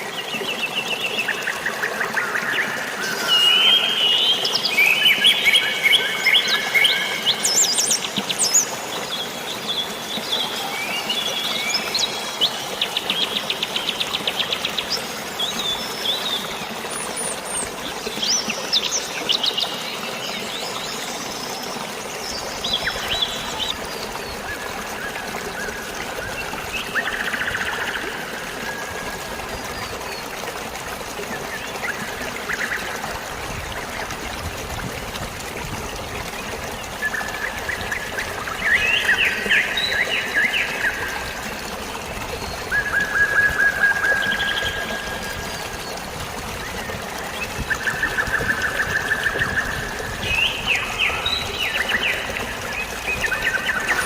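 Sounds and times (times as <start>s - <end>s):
flowing water: 0.0s - 54.0s.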